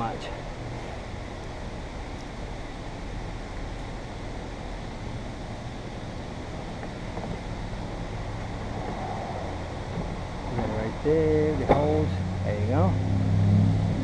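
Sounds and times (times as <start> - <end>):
low wind-like rumble: 0.0 - 14.0.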